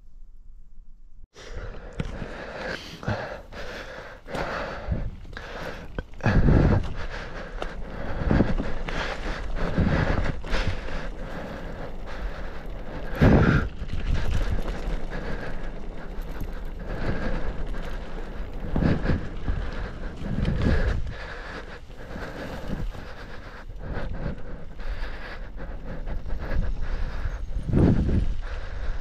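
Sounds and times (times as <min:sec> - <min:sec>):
bicycle tyre noise: 0:01.4 - 0:29.0
bike rattling over bumps: 0:01.5 - 0:29.0
wind buffeting microphone: 0:03.5 - 0:29.0.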